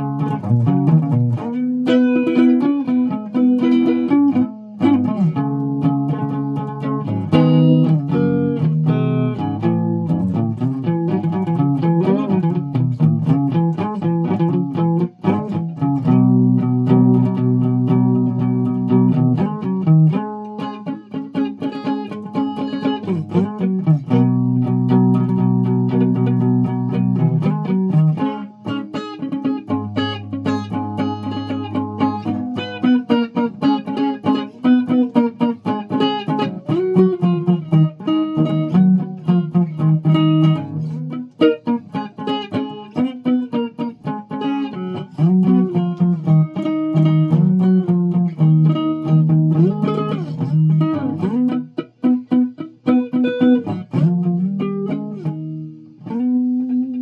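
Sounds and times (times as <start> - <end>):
guitar plucked notes: 0.0 - 57.0.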